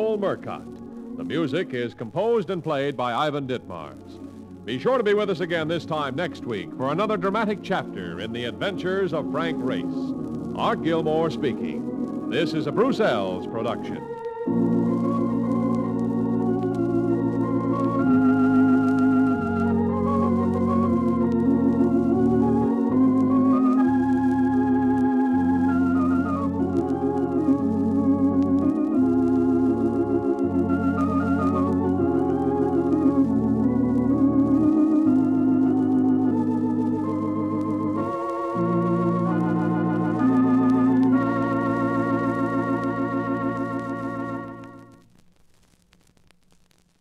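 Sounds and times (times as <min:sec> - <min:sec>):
organ chords with vibrato: 0:00.0 - 0:45.0.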